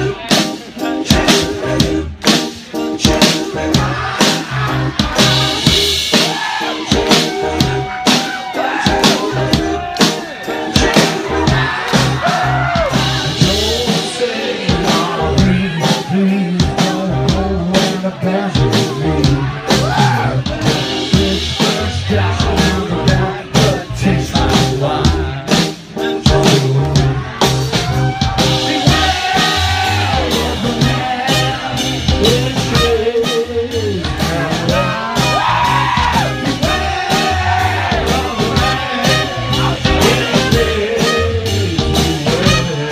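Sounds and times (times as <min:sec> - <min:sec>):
person singing: 0:00.0 - 0:05.6, 0:06.2 - 0:27.1, 0:28.3 - 0:42.9
drum beat: 0:00.0 - 0:33.2, 0:34.0 - 0:42.8
live band music: 0:00.0 - 0:42.9.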